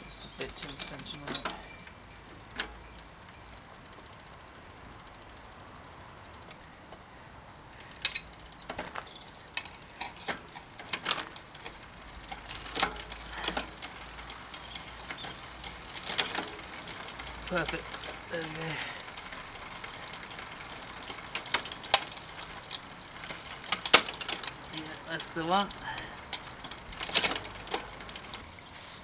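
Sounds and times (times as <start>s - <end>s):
bicycle chain running: 0.0s - 6.6s, 7.8s - 28.5s
bicycle freehub ratcheting: 0.0s - 6.7s, 7.8s - 28.5s.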